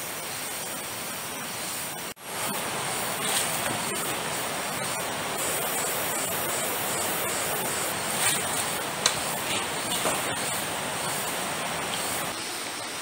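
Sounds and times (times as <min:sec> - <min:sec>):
heavy rain on leaves: 0:00.0 - 0:13.0.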